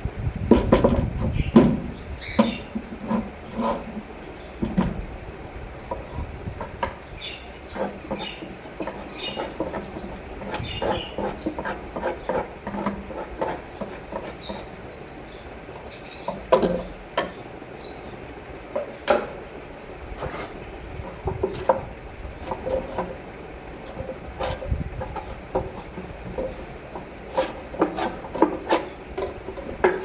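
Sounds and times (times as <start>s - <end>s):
knocking and scraping on wood box: 0.5s - 5.1s, 5.8s - 14.8s, 15.8s - 17.4s, 18.7s - 19.4s, 20.2s - 30.0s.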